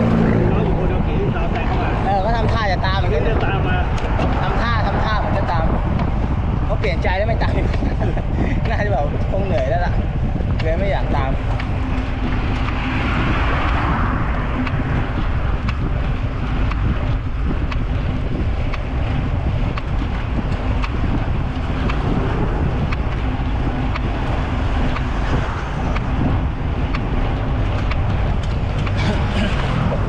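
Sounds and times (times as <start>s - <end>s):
small clicks from road: 0.0s - 30.0s
wind buffeting microphone: 0.0s - 30.0s.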